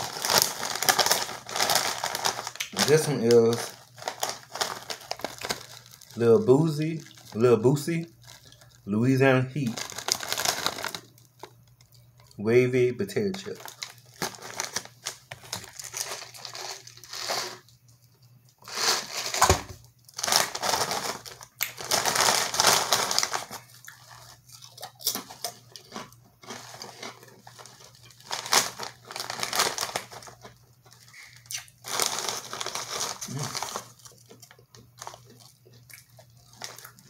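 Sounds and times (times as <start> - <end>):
chip bag crackling: 0.0 - 11.7, 13.2 - 17.7, 18.6 - 37.0.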